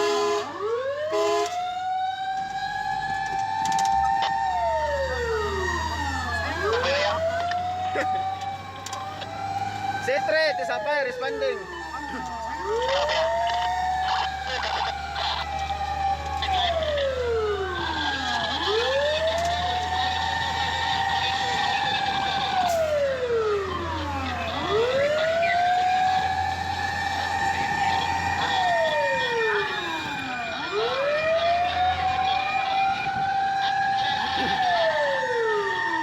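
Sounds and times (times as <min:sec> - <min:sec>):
fire engine siren wailing: 0:00.0 - 0:36.0.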